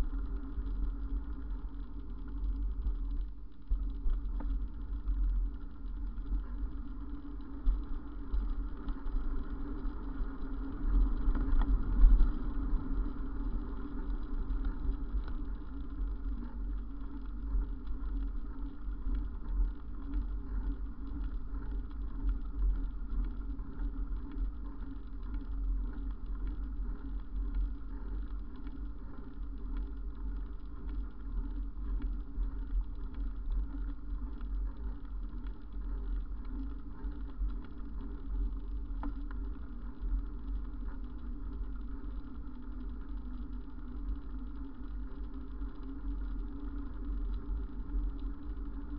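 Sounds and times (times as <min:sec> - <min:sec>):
bicycle road vibration: 0:00.0 - 0:48.9
wind rumble on microphone: 0:00.0 - 0:48.9.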